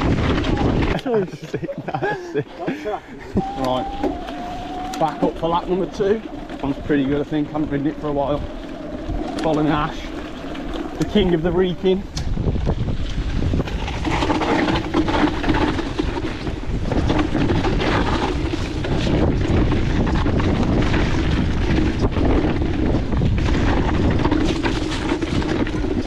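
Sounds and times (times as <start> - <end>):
low rumble from riding: 0.0 - 26.0
wind buffeting microphone: 0.0 - 26.0
electric bike motor whining: 3.2 - 26.0.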